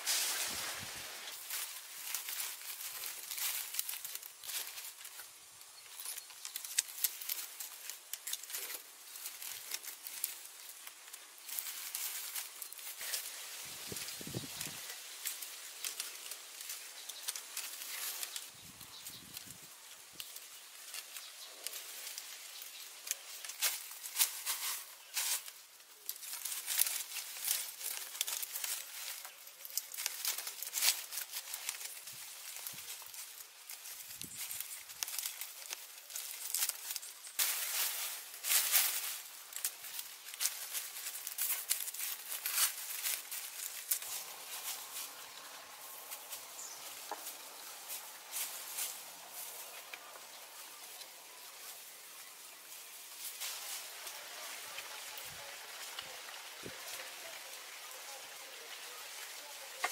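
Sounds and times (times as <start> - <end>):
leaves and sticks crackling: 0.0 - 59.9
rustling plant material: 0.0 - 59.9.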